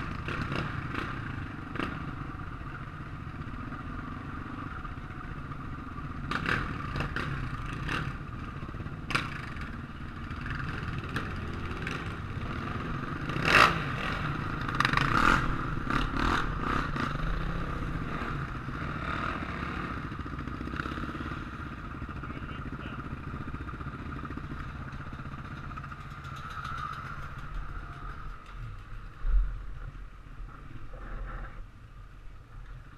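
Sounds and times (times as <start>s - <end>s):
distant motorcycle engines: 0.0s - 32.9s.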